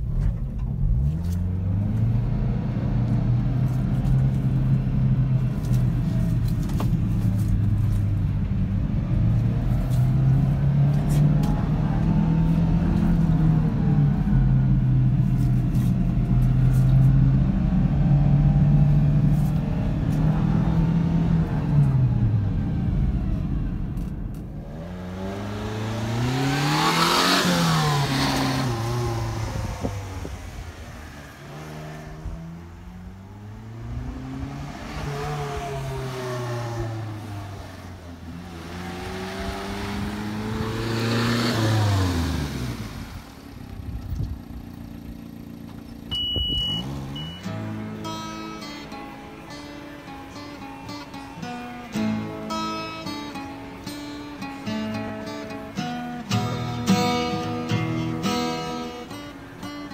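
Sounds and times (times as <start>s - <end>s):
small truck engine driving: 0.0s - 59.9s.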